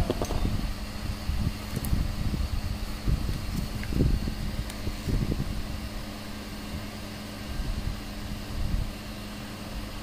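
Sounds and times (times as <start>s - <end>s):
fan-like droning hum: 0.0s - 10.0s.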